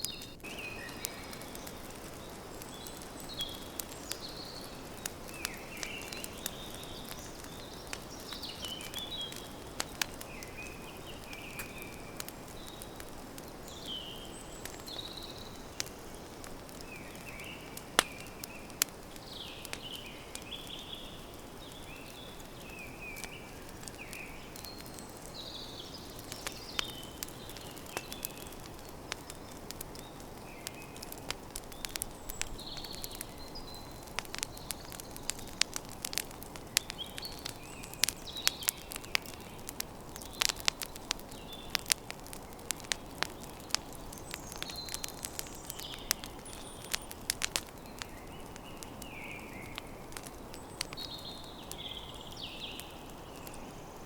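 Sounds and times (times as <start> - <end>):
campfire crackling and popping: 0.0 - 54.0
small birds chirping: 0.0 - 54.0.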